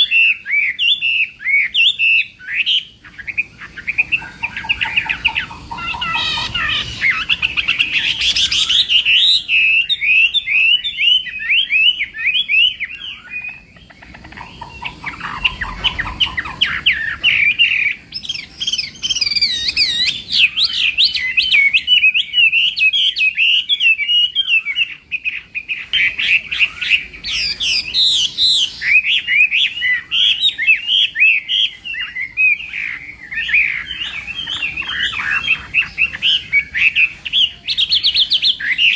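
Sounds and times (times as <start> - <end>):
bird singing whistled phrases: 0.0 - 13.9, 14.6 - 38.9.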